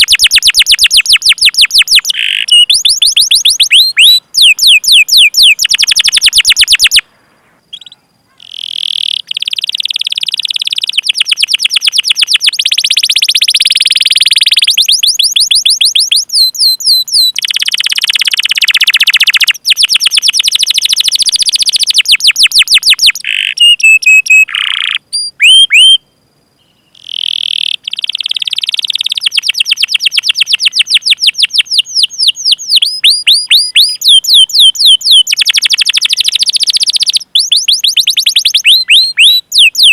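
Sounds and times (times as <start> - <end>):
canary singing: 0.0 - 7.0, 7.7 - 26.0, 26.6 - 39.9.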